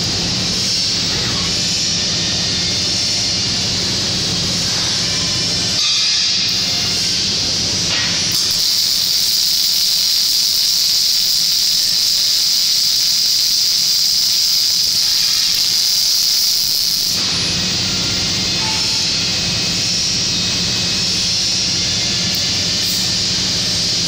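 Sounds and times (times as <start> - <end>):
arc welding hiss: 0.0 - 24.0.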